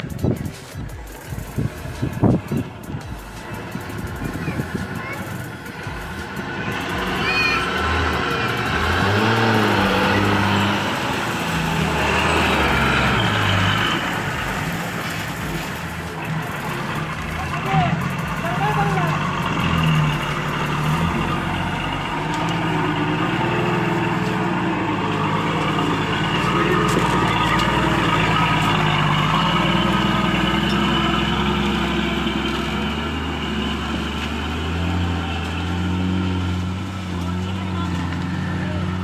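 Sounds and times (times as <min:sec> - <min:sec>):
lorry diesel engine running: 0:00.0 - 0:39.0.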